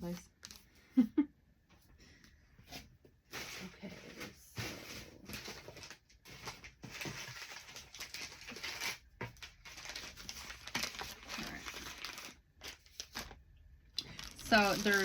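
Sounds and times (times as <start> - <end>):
packaging rustling and crinkling: 0.0 - 0.7, 2.7 - 13.4, 14.0 - 15.0.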